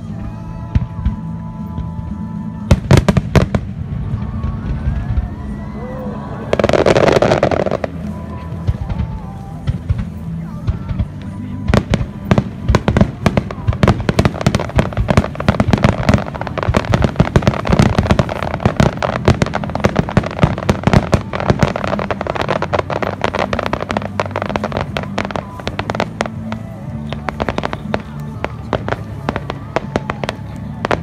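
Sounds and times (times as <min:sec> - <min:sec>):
background music: 0:00.0 - 0:31.0
fireworks crackling and banging: 0:00.0 - 0:31.0.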